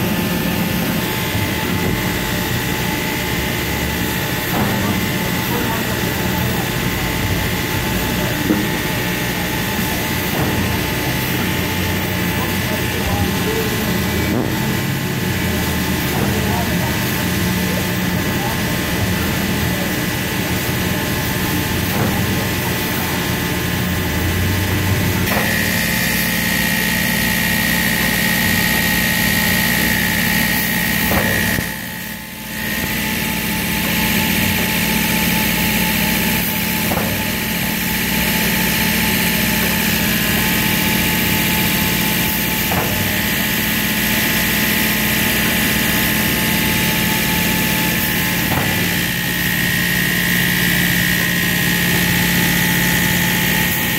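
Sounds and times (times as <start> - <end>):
factory machinery drone: 0.0 - 53.9.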